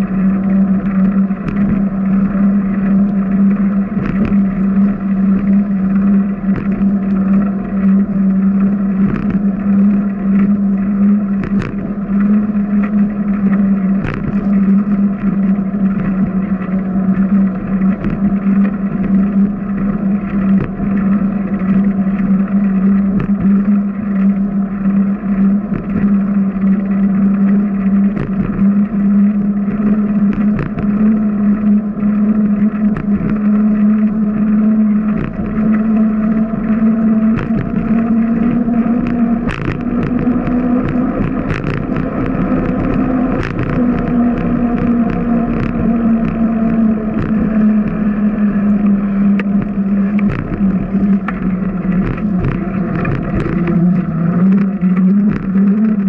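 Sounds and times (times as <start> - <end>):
bicycle rolling on concrete: 0.0 - 56.0.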